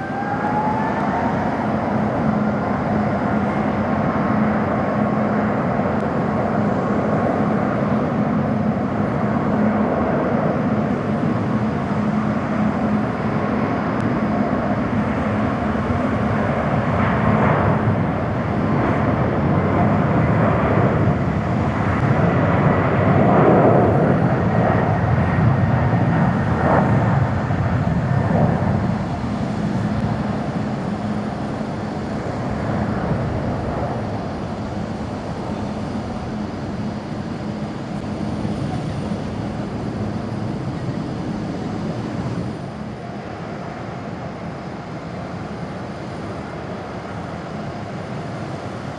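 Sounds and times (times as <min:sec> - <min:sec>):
jet engines rumbling at takeoff: 0:00.0 - 0:48.9.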